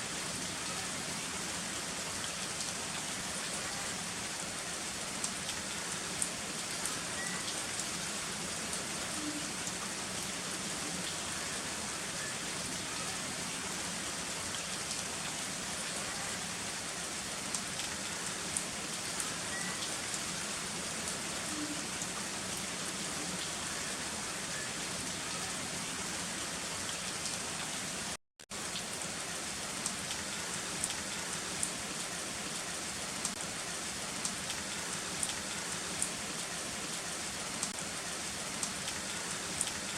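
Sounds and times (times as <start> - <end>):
heavy rain with tapping drops: 0.0 - 39.9.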